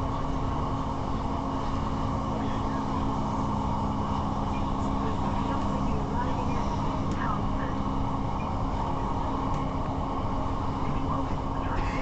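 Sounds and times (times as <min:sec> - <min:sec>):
train engine drone: 0:00.0 - 0:12.0
wheels rumbling on rails: 0:00.0 - 0:12.0.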